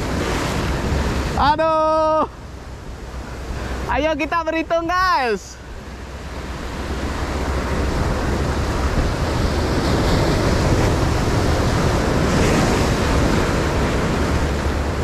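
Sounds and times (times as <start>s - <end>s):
surf breaking over rocks: 0.0s - 15.0s
wind rumbling on microphone: 0.0s - 15.0s.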